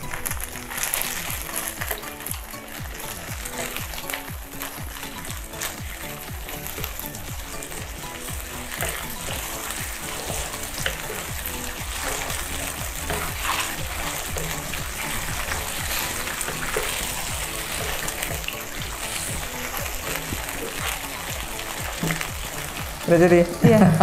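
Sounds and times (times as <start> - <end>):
background music: 0.0 - 24.0
sauce sizzling and bubbling: 0.0 - 24.0
wooden spatula stirring: 0.0 - 24.0.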